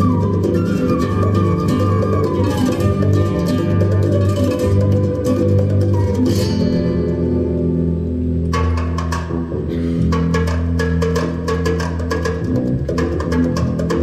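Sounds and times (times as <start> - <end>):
flamenco dance music: 0.0 - 14.0
plucked guitar: 0.0 - 14.0.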